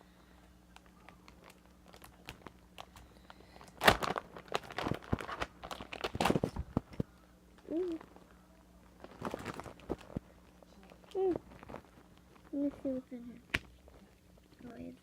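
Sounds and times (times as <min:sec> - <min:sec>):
rummaging with crinkling: 0:00.8 - 0:07.0, 0:07.6 - 0:14.9.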